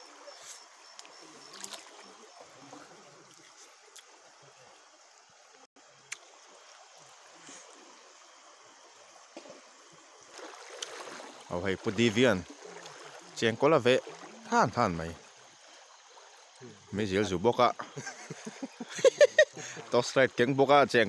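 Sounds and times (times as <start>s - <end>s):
stream trickling over rocks: 0.0s - 21.0s.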